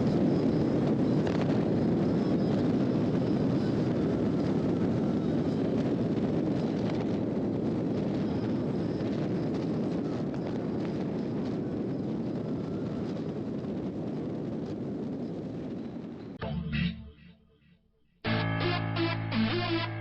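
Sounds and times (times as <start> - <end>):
wind and road noise on microphone: 0.0 - 16.4.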